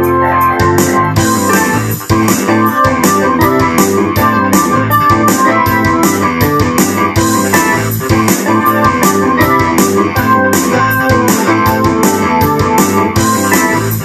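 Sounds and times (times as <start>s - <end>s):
synthesizer keyboard rock chords: 0.0s - 14.0s
steady drum beat: 0.6s - 14.0s.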